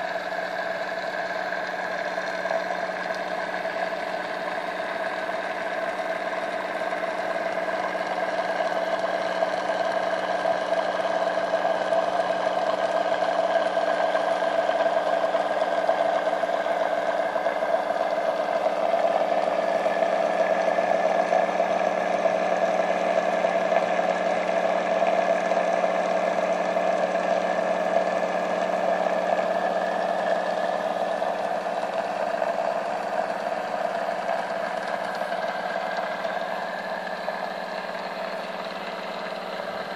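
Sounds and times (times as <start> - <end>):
rotor machine humming: 0.0 - 39.9.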